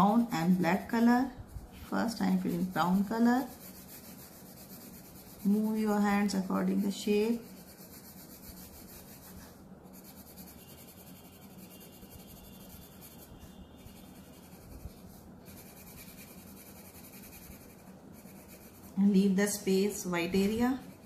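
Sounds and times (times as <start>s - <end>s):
pencil shading on paper: 0.0s - 21.0s.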